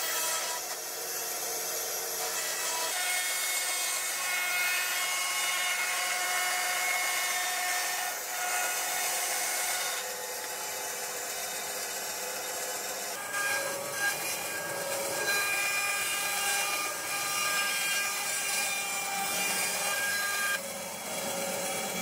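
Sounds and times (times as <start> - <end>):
band saw cutting: 0.0 - 22.0.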